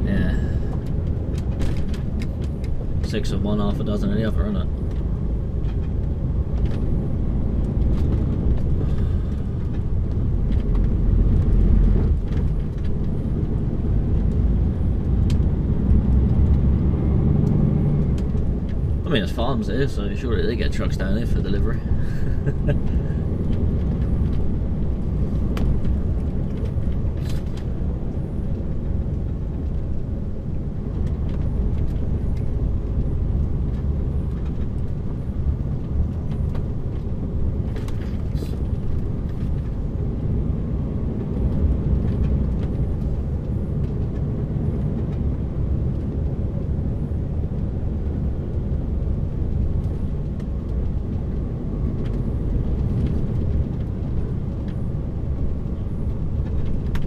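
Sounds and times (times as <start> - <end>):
lorry engine and road noise: 0.0 - 57.0.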